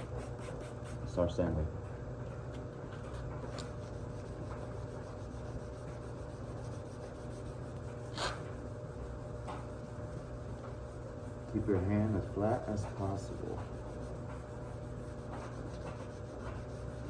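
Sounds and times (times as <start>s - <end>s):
wet sandpaper scrubbing plastic: 3.2s - 17.0s.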